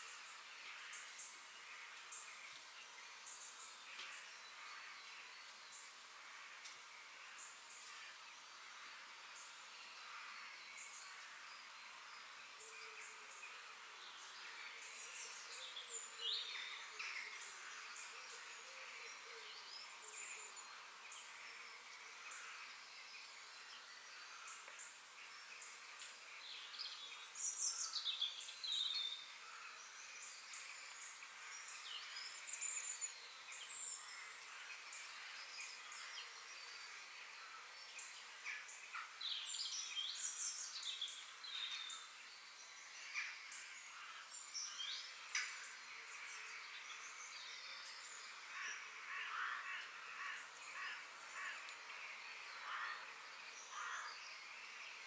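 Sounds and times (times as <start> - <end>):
high hiss of forest ambience: 0.0 - 55.0
small birds chirping and singing: 0.0 - 55.0.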